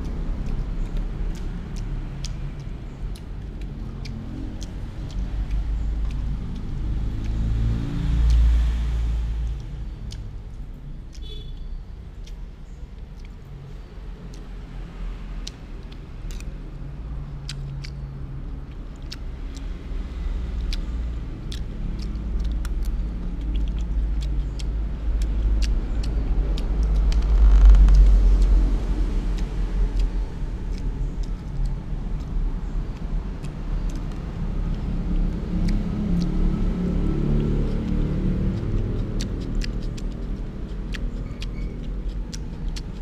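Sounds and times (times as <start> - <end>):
low vehicle rumble: 0.0 - 43.0.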